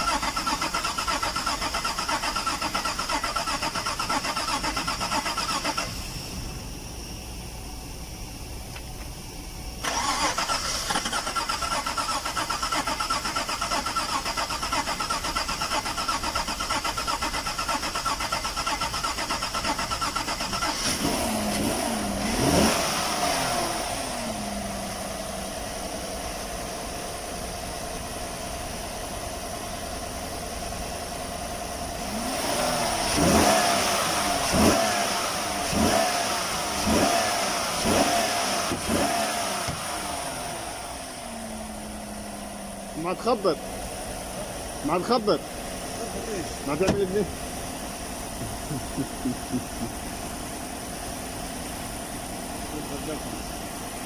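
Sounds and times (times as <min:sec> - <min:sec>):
engine revving and idling: 0:00.0 - 0:08.6, 0:09.8 - 0:54.0.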